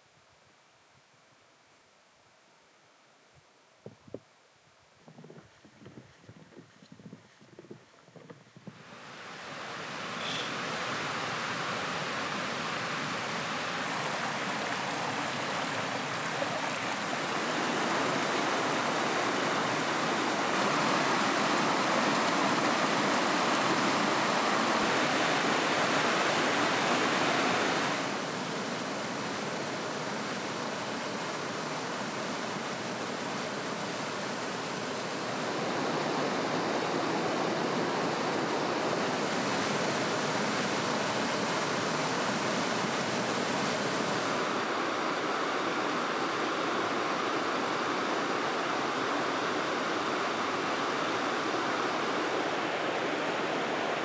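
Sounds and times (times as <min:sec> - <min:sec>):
running water rushing: 0:08.7 - 0:54.0.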